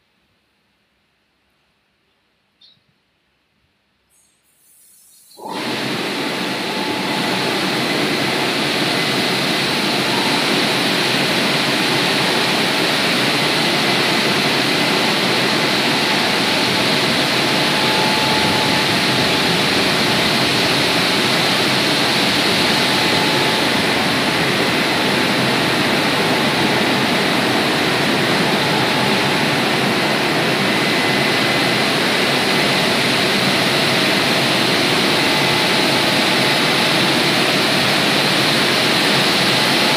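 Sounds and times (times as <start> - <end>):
car wash machine rushing: 5.4 - 39.9.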